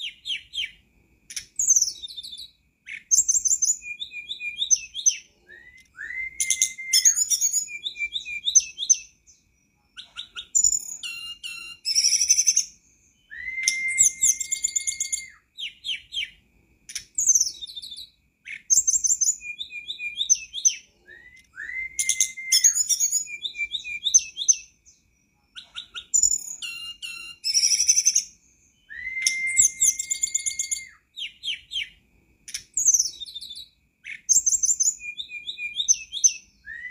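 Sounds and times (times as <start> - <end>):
bird whistling: 0.0 - 9.4, 10.0 - 36.9
bird twittering trills: 0.0 - 36.9.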